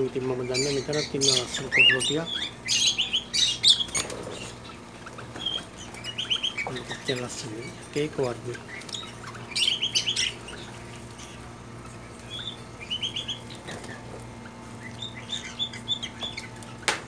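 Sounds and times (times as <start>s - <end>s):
steady low hum: 0.0s - 17.0s
cockatiels chirping: 0.2s - 17.0s.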